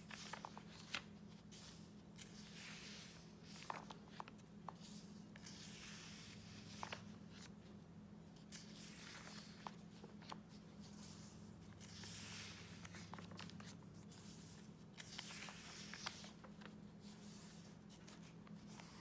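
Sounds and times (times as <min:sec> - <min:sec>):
paper pages turning: 0:00.0 - 0:19.0.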